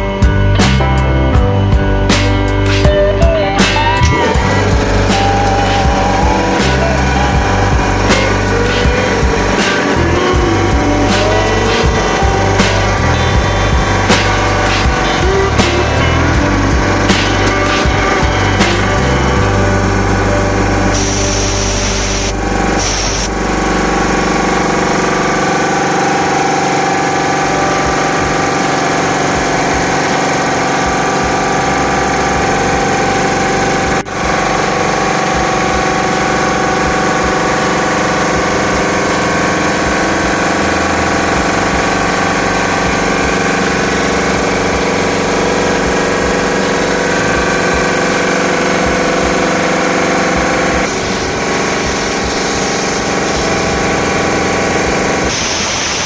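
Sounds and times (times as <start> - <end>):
air compressor running: 0.0 - 56.0.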